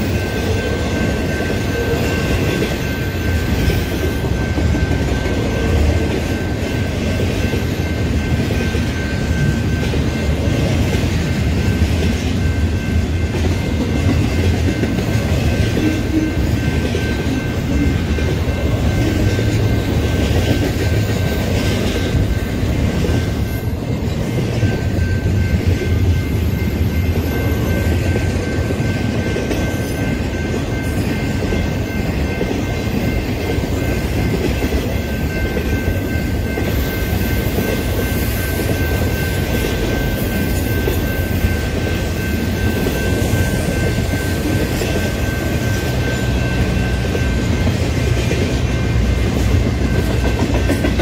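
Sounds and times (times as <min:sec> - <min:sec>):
high-pitched ring: 0:00.0 - 0:51.0
train wheels rumbling on track: 0:00.0 - 0:51.0.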